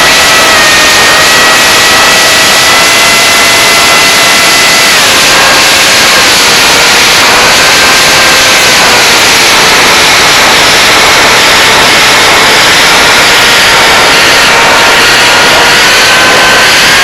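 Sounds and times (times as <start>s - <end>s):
electric motor propeller whining: 0.0s - 17.0s
wind rush on microphone: 0.0s - 17.0s.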